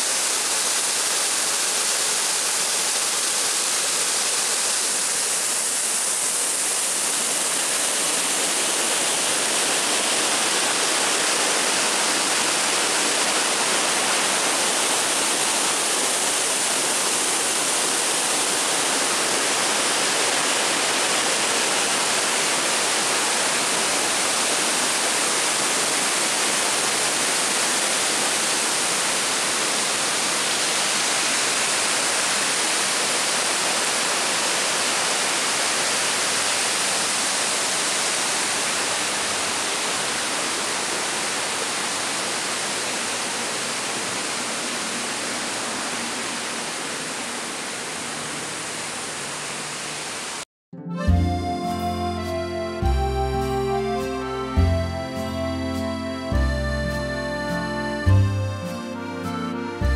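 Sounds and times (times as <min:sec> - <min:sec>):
waterfall onto rocks: 0:00.0 - 0:50.4.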